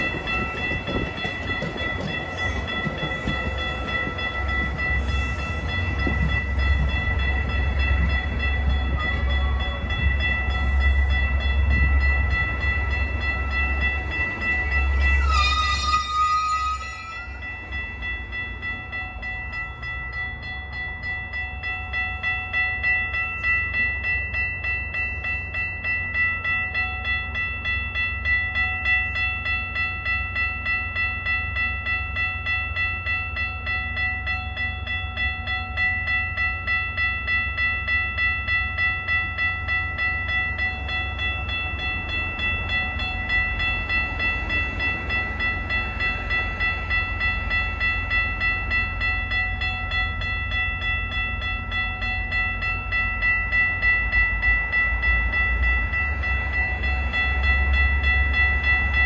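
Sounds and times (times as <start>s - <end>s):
railway warning bell ringing: 0.0s - 59.0s
train rumbling: 0.0s - 59.0s.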